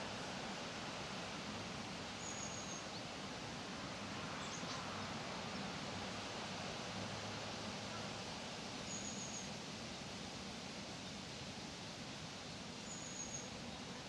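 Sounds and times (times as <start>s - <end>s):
leaves rustling in the breeze: 0.0s - 14.0s.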